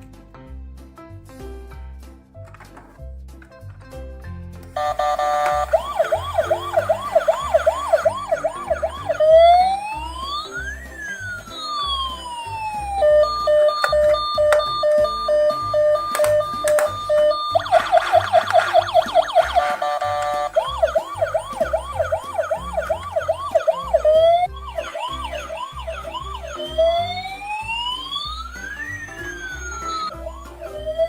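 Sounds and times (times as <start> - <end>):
background music with bass: 0.0 - 31.0
electronic siren yelp and wail: 4.8 - 31.0.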